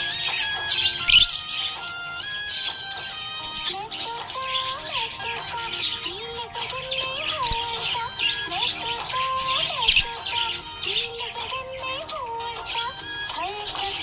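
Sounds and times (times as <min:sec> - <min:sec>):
budgerigar chirping: 0:00.0 - 0:14.0
music track melody: 0:00.0 - 0:14.0.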